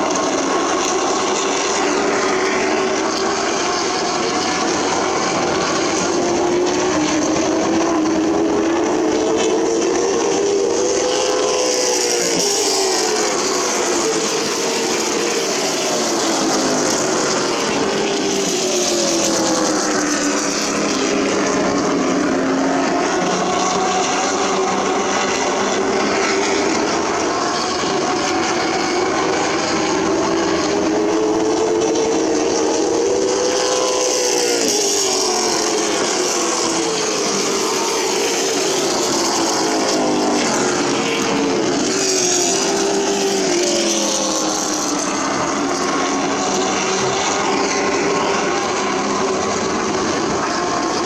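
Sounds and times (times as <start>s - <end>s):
race car engines running hard: 0.0s - 51.0s.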